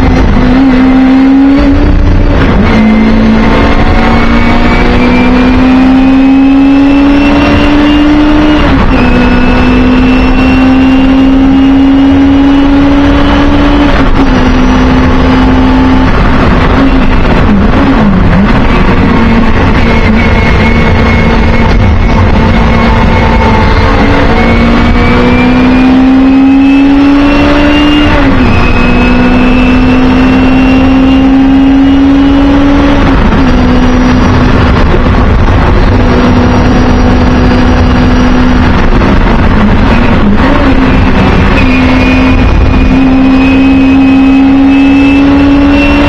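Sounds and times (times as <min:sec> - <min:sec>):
race car engine revving: 0:00.0 - 0:46.0.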